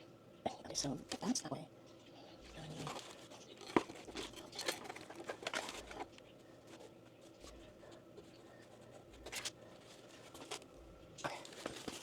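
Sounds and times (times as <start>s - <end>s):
rustling and small knocks: 2.0s - 12.0s.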